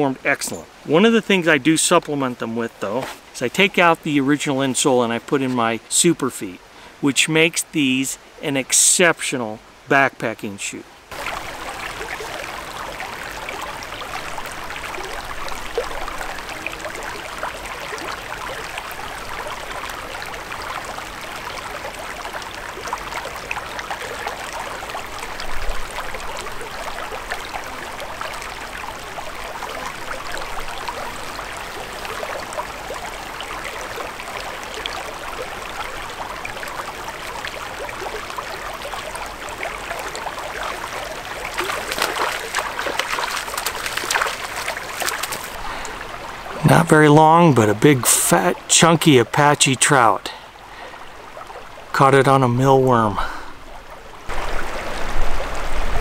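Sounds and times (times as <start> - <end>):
creek water over rocks: 0.0 - 56.0.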